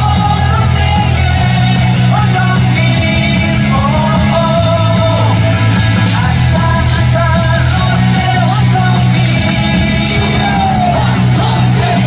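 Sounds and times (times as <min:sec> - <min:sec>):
cheer song over stadium speakers: 0:00.0 - 0:12.0
crowd singing along: 0:00.0 - 0:12.0.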